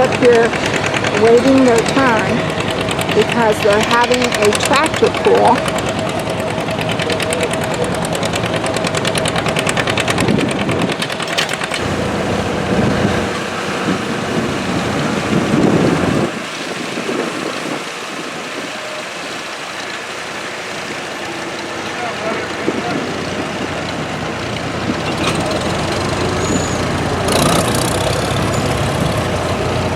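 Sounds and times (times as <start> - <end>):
tractor engines idling: 0.0 - 29.9.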